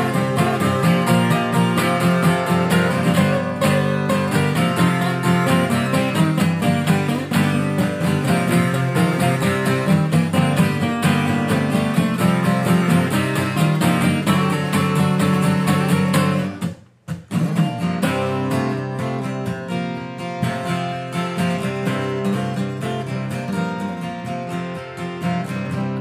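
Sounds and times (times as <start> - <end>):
country music on acoustic guitar: 0.0 - 26.0.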